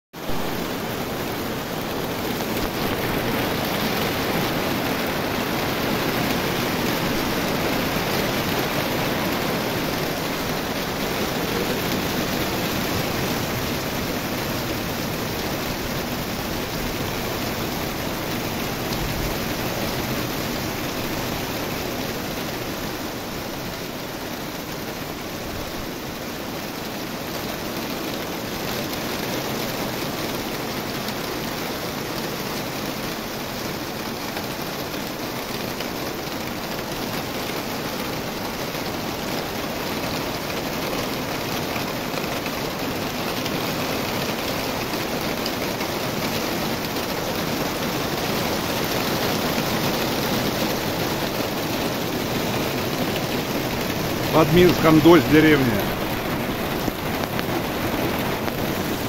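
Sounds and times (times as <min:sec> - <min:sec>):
rain on foliage: 0:00.2 - 0:59.0.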